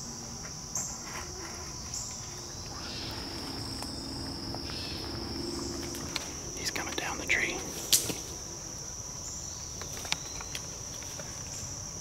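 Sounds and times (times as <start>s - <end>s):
cricket chorus: 0.0s - 12.0s
high insect call bursts: 0.0s - 12.0s.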